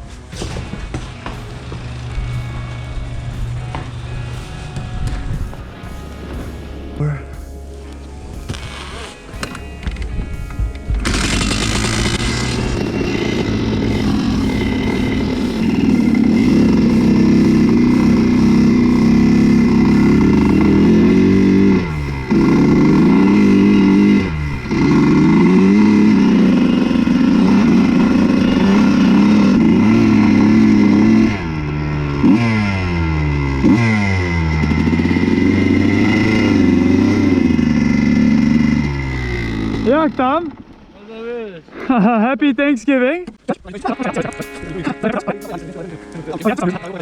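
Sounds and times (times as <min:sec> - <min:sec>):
dirt bike engine revving: 0:00.0 - 0:41.0, 0:43.4 - 0:47.0.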